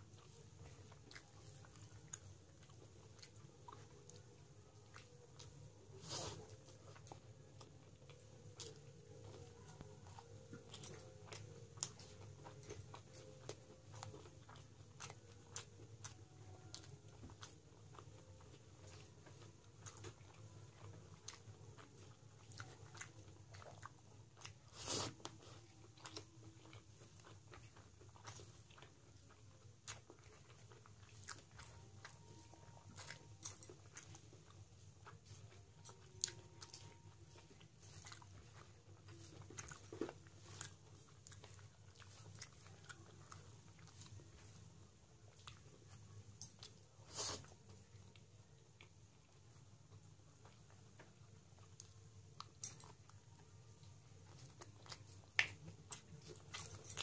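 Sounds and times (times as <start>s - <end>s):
faint low hum: 0.0s - 57.0s
person chewing food: 0.0s - 57.0s.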